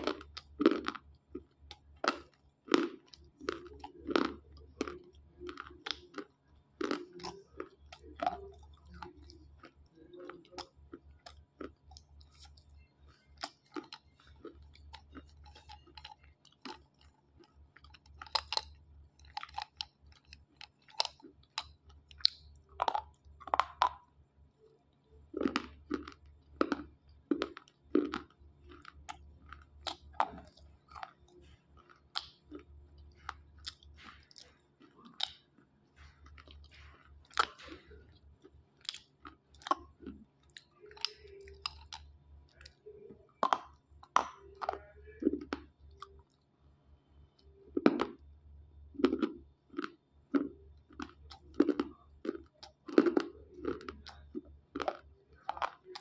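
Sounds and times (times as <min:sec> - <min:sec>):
chewing with sharp crunches: 0:00.0 - 0:46.5, 0:47.3 - 0:48.3, 0:48.9 - 0:56.0.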